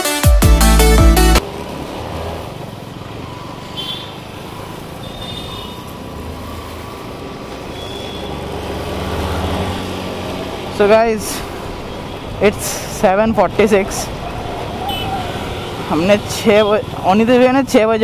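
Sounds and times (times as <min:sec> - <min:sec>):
road and wind noise: 0:00.8 - 0:18.0.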